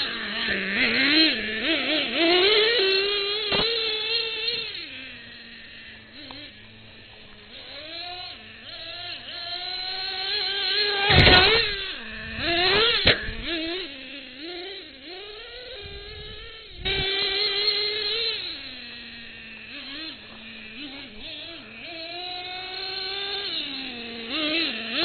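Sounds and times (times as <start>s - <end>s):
small engine revving: 0.0s - 25.0s.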